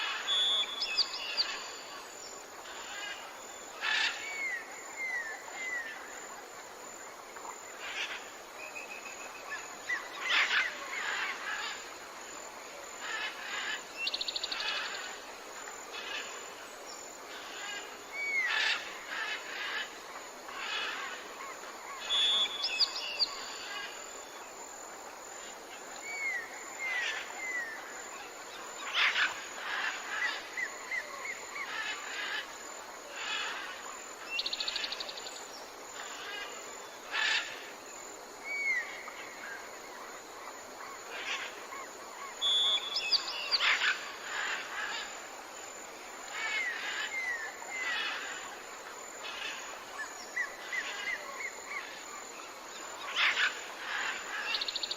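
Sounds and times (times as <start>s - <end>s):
background hiss: 0.0s - 54.9s.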